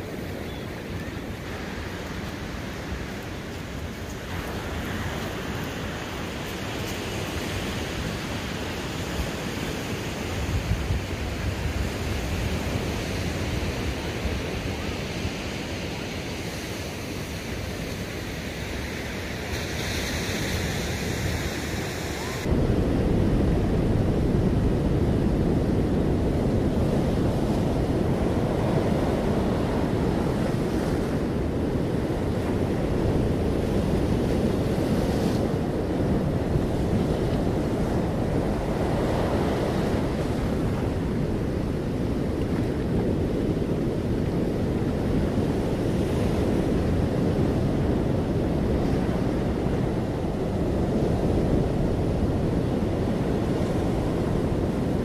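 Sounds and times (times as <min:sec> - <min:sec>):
surf washing on a beach: 0:00.0 - 0:55.0
wind buffeting microphone: 0:00.0 - 0:55.0.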